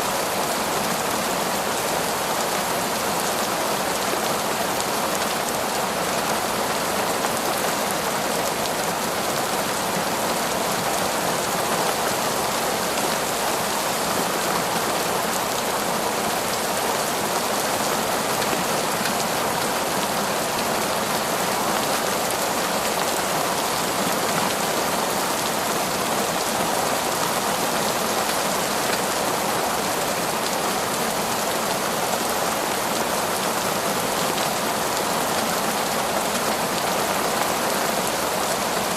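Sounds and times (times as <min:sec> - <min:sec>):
heavy rain falling on forest: 0:00.0 - 0:38.9.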